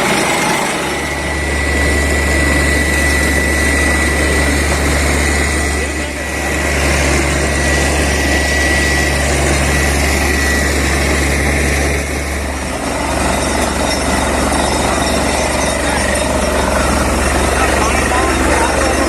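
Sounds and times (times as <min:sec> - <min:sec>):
drilling rig running: 0:00.0 - 0:19.0.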